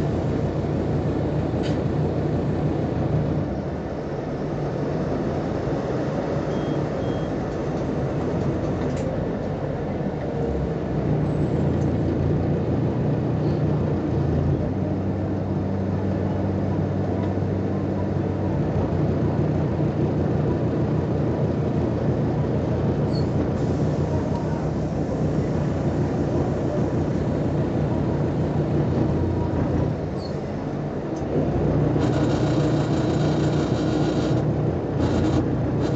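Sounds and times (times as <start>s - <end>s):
bus diesel engine drone: 0.0s - 35.9s.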